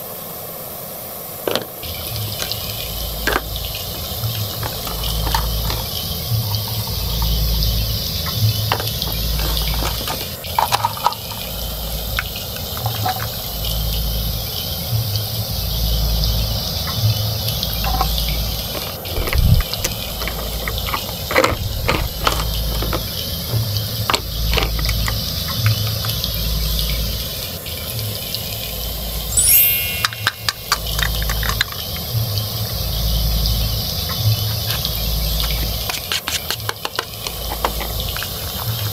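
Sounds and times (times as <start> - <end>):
toy stove frying hiss: 0.0 - 38.9.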